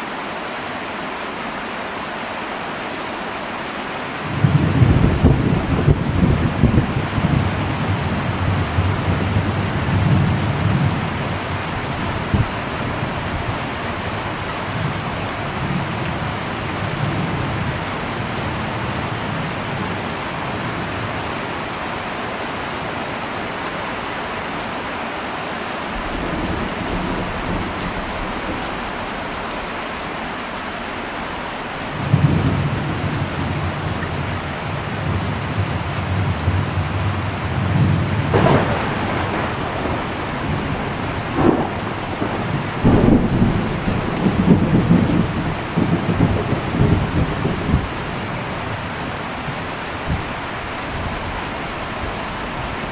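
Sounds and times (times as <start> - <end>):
heavy rain on metal roof: 0.0 - 52.9
thunder rumbling: 4.2 - 21.6, 25.9 - 31.0, 31.6 - 52.9.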